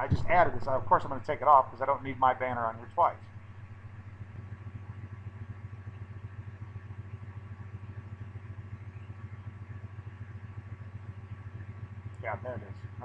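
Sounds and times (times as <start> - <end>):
low hum with fast flutter: 0.0 - 13.0.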